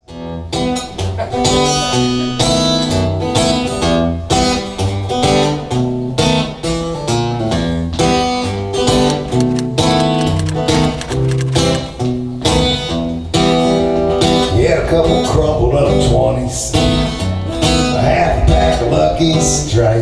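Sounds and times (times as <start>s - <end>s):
acoustic guitar strumming: 0.1s - 20.0s.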